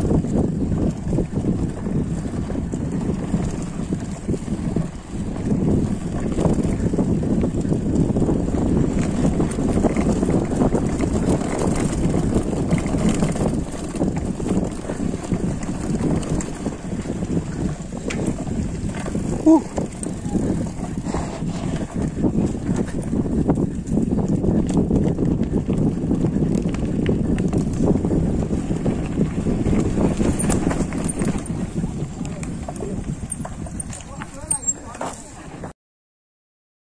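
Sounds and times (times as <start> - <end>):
bike rattles and clicks: 0.0 - 35.7
bike tyres rolling on dirt: 0.0 - 35.7
wind buffeting microphone: 0.0 - 35.7.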